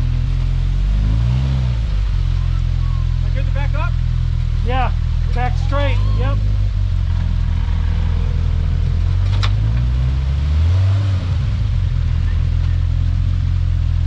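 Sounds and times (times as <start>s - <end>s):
off-road vehicle engine running: 0.0s - 14.0s.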